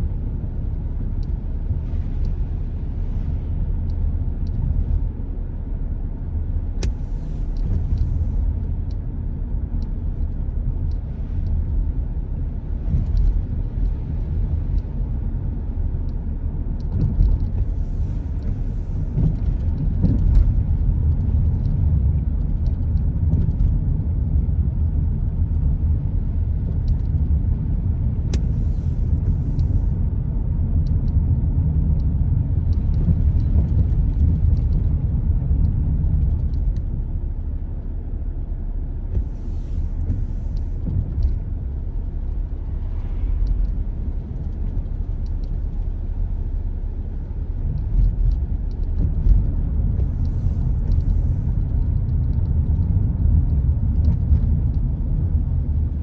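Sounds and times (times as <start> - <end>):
car driving on wet road: 0.0 - 56.0.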